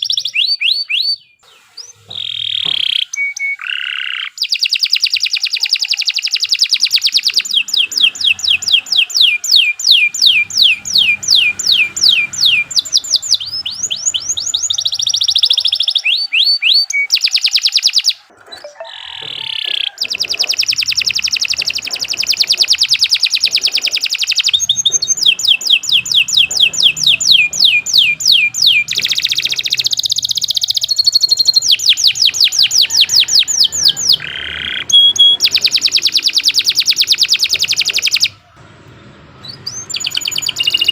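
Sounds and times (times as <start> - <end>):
canary singing fast trills: 0.0 - 38.6, 39.4 - 40.9.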